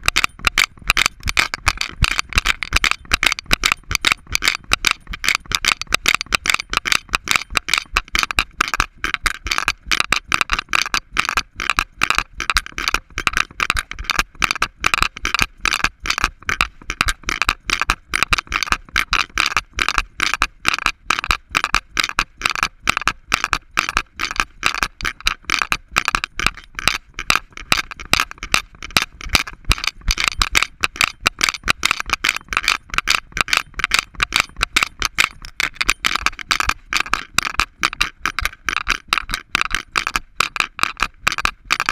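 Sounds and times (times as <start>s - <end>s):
camera rattling in mount: 0.0s - 20.0s, 24.2s - 41.9s.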